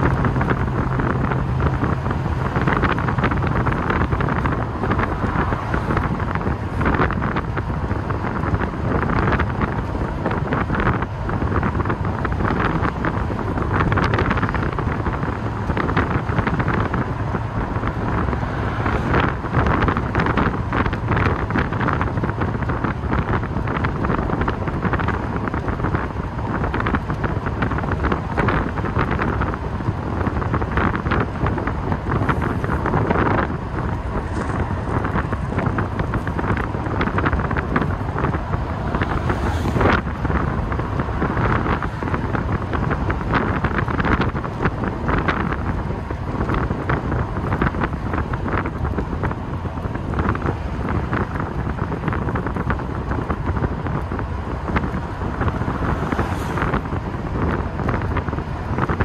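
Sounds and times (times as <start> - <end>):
car engine: 0.0 - 59.0
road noise: 0.0 - 59.0
wind rushing over microphone: 0.0 - 59.0.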